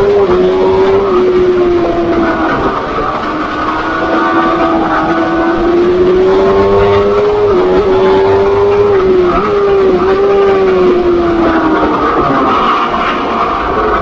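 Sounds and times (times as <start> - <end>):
motorbike engine revving high: 0.0 - 14.0.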